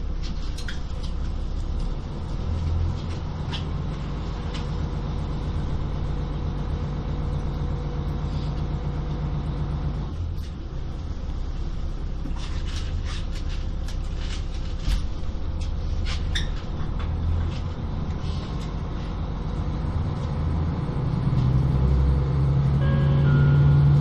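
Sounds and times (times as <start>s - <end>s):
diesel railcar rumble: 0.0s - 24.0s.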